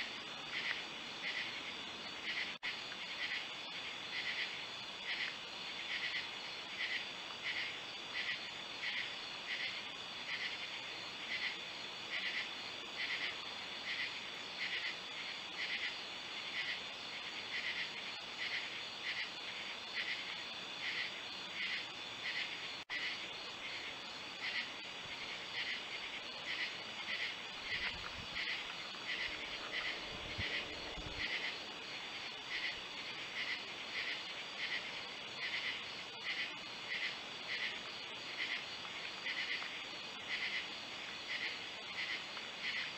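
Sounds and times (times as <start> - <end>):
insect chorus trilling: 0.0 - 42.9
pulsing insect call: 0.0 - 42.9.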